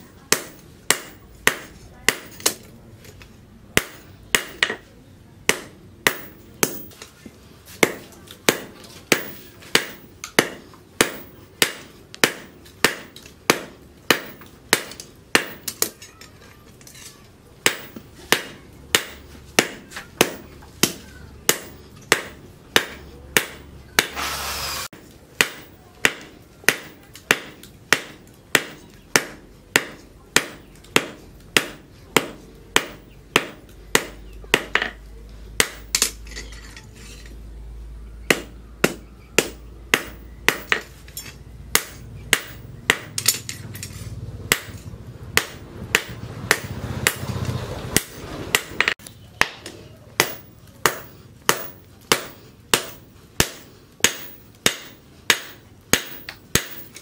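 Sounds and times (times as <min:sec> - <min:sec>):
hammer striking hot steel on anvil: 0:00.2 - 0:02.7, 0:03.8 - 0:04.9, 0:05.5 - 0:07.1, 0:07.8 - 0:16.3, 0:17.0 - 0:24.3, 0:24.9 - 0:37.3, 0:38.3 - 0:57.0.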